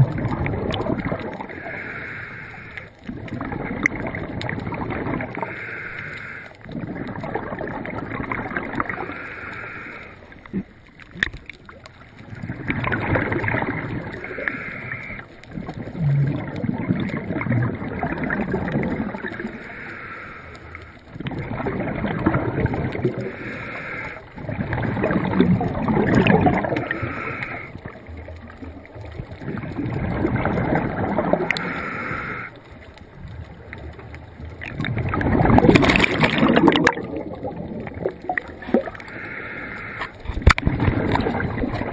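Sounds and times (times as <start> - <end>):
water gurgling and rushing: 0.0 - 19.9, 20.6 - 41.9.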